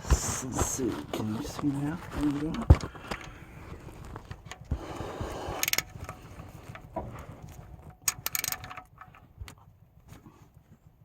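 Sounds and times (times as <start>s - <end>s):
rustling handling noise: 0.0s - 11.0s.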